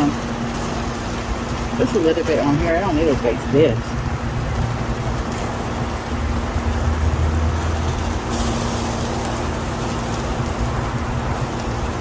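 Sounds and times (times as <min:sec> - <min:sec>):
low rumble with hum: 0:00.0 - 0:12.0
meat sizzling on a grill: 0:00.0 - 0:12.0.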